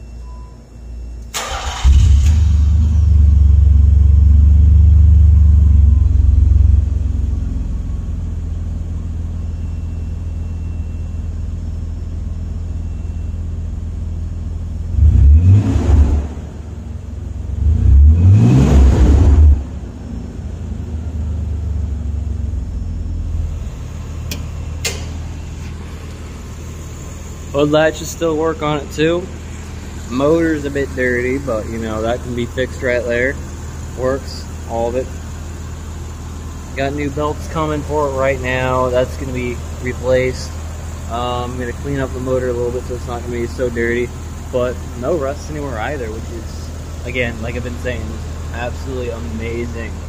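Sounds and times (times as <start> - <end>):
car engine idling and revving: 1.3 - 50.0.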